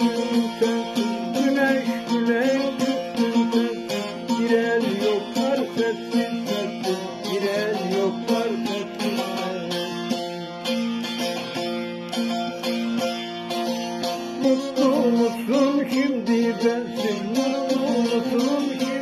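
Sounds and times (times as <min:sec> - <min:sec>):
long-necked lute folk melody: 0:00.0 - 0:19.0.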